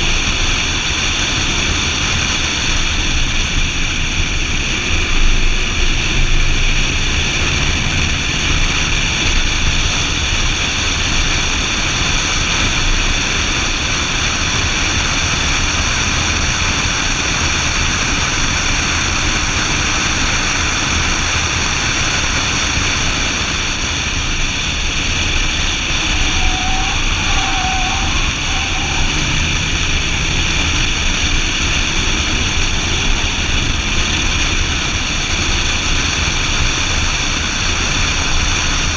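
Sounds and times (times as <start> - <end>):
car engine at speed: 0.0 - 38.9
wind and road noise: 0.0 - 38.9.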